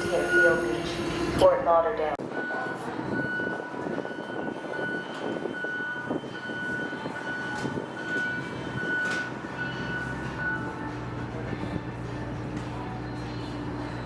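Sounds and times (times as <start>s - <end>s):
train station din: 0.0s - 14.0s.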